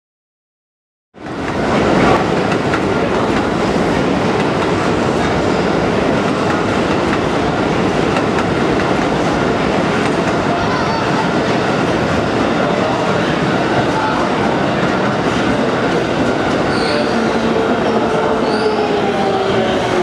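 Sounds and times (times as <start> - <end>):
train rumbling on track: 1.2 - 20.0.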